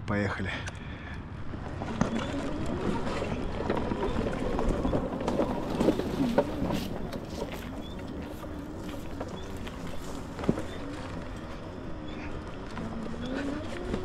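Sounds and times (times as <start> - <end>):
car engine on dirt track: 1.3 - 14.0.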